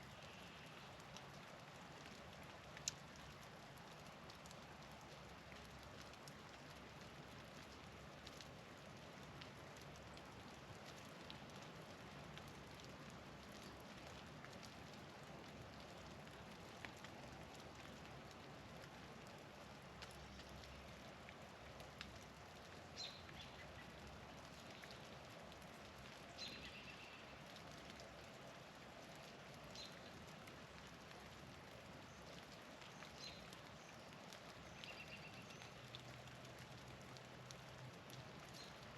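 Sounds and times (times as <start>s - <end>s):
hiss of falling rain: 0.0s - 38.9s.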